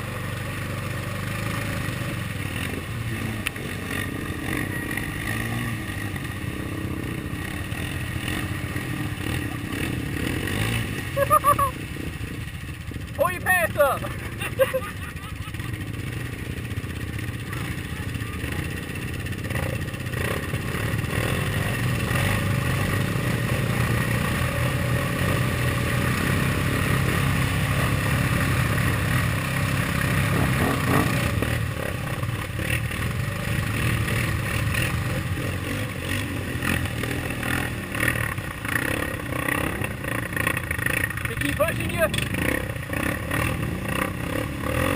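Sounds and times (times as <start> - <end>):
atv engines running: 0.0 - 44.9.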